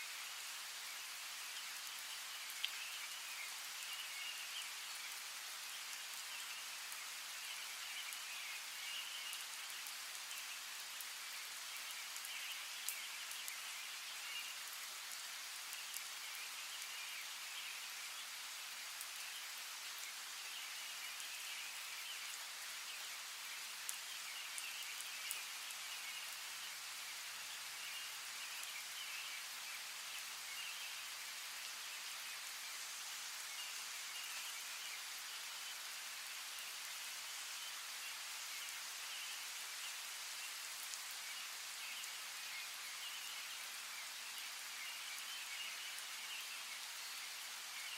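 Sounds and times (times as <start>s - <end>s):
rain hissing: 0.0s - 47.9s.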